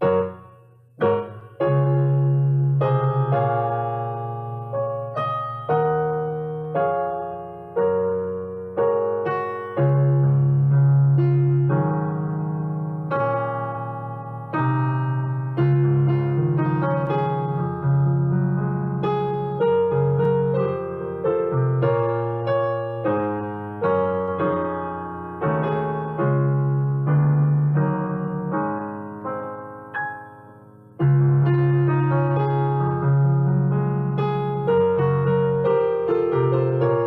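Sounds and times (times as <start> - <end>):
solo piano slow chords: 0.0 - 37.0.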